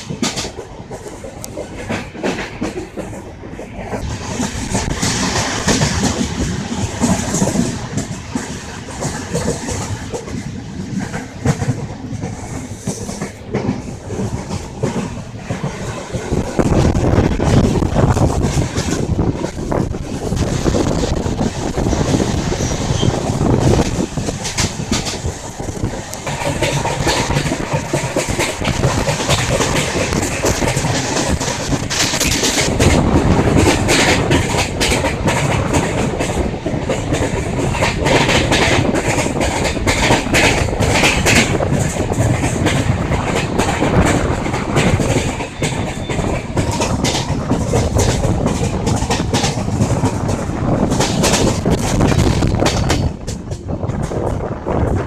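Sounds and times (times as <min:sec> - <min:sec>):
train wheels clattering on rails: 0:00.0 - 0:55.0.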